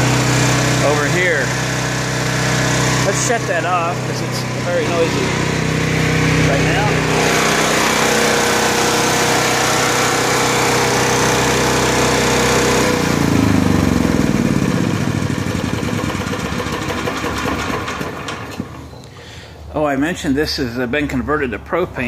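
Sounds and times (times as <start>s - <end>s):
generator winding down: 0.0s - 19.2s
generator engine running: 0.0s - 19.6s.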